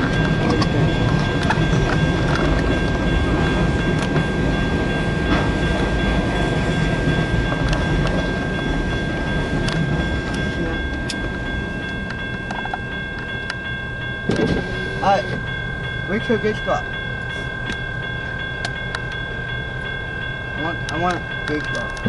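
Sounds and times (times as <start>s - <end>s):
train wheels clicking: 0.0s - 15.6s, 16.2s - 22.0s
freight train rumbling past: 0.0s - 22.0s.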